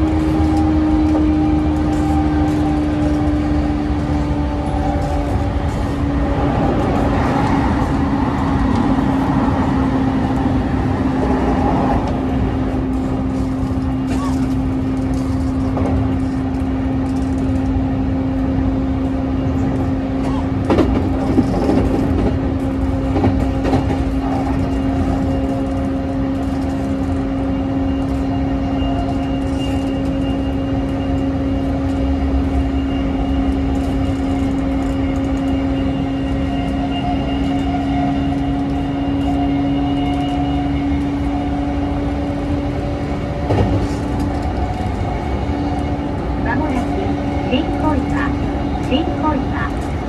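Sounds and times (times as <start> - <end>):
steady train hum: 0.0 - 50.0
train wheels rumbling on rail: 0.0 - 50.0.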